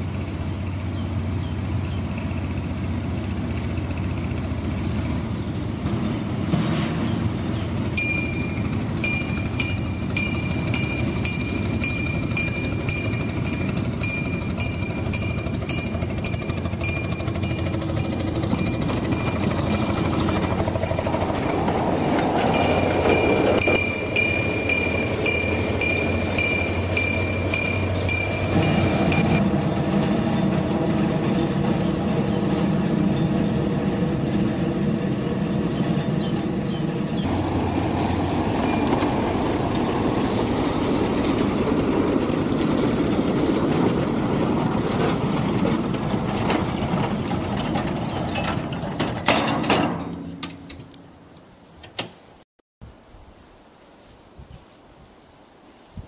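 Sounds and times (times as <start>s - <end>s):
diesel locomotive engine running: 0.0s - 51.4s
wagons rattling: 0.2s - 51.2s.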